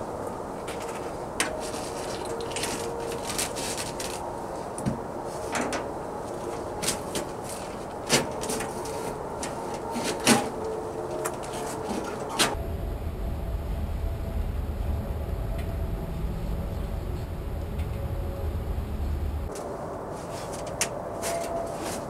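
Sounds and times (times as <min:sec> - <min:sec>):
faint steady hum: 0:00.0 - 0:20.8.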